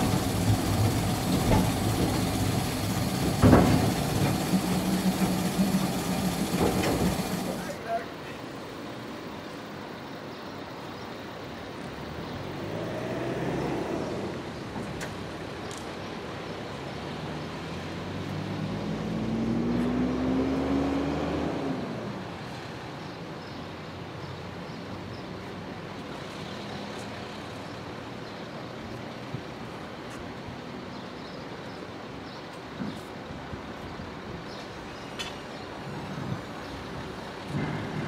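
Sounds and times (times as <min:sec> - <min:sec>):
vehicles driving past: 0:00.0 - 0:09.4, 0:11.3 - 0:31.1, 0:34.5 - 0:38.0.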